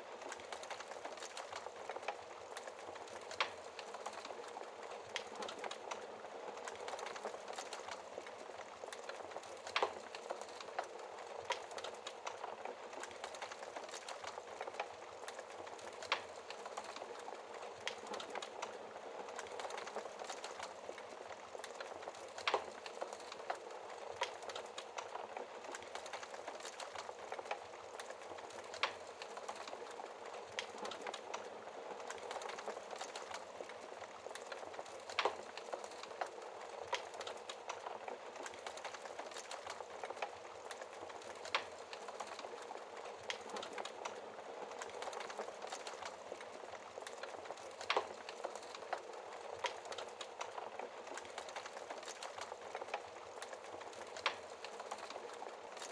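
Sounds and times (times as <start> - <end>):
wood fire hissing and crackling: 0.0 - 55.9
fire pops: 0.2 - 55.9.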